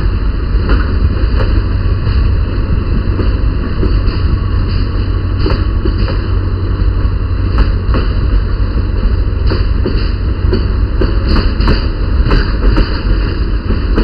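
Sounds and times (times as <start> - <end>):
train coaches rumbling: 0.0 - 14.0
wheels clacking over rail joints: 0.0 - 14.0.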